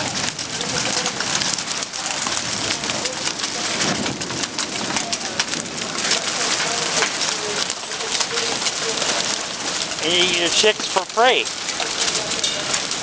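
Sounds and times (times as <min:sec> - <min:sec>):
rain pattering on hard surfaces: 0:00.0 - 0:13.0.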